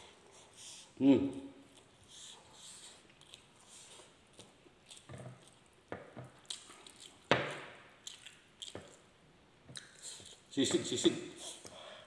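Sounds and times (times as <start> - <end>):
man chewing food: 0.0 - 10.5.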